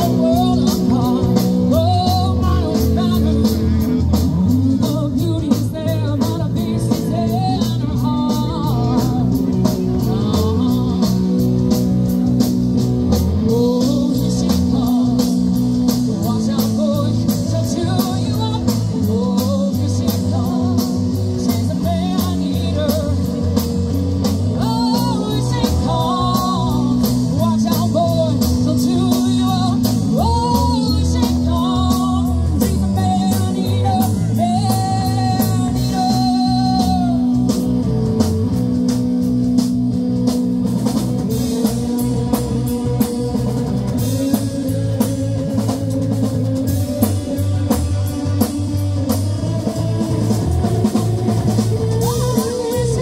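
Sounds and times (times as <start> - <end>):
lead vocal singing: 0.0 - 11.6, 13.2 - 38.0, 41.2 - 53.0
live rock band playing: 0.0 - 53.0.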